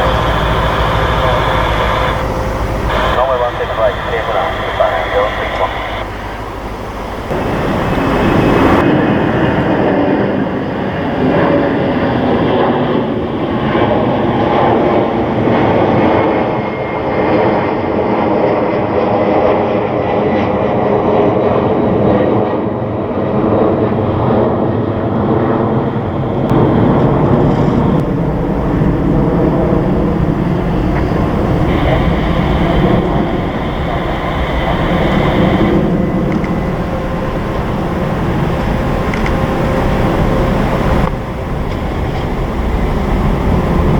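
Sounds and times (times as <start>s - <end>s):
jet engines roaring on landing: 0.0s - 43.9s.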